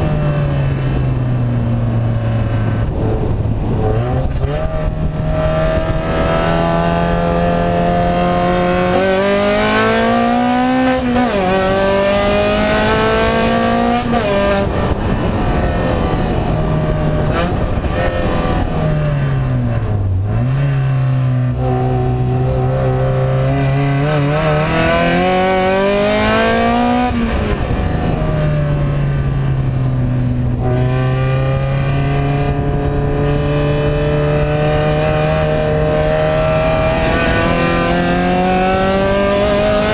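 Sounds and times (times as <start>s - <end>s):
unsilenced vehicle engine revving: 0.0s - 39.9s.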